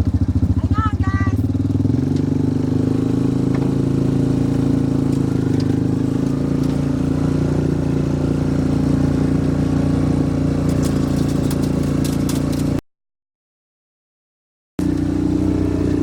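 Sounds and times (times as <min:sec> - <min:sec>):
vehicle engine running: 0:00.0 - 0:12.8, 0:14.8 - 0:16.0.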